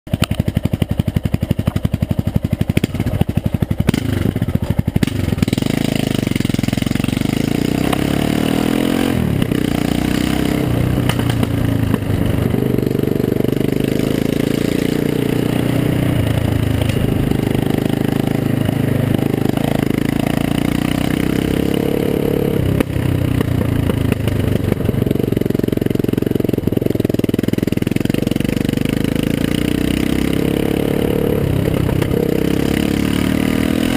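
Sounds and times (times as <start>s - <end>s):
motorcycle engine open exhaust: 0.1s - 33.9s.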